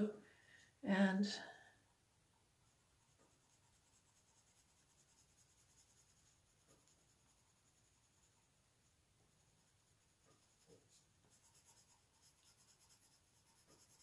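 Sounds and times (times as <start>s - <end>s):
pencil scratching on paper: 2.7s - 14.0s.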